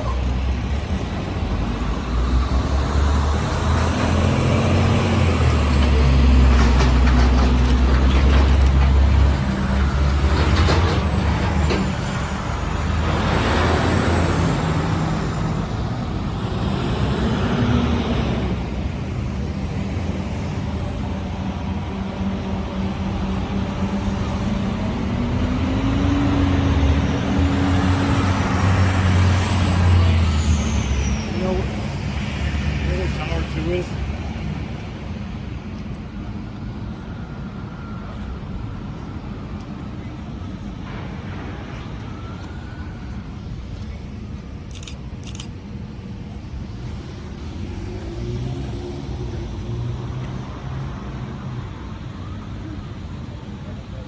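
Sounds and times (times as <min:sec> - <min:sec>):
heavy vehicle engines rumbling: 0:00.0 - 0:54.0.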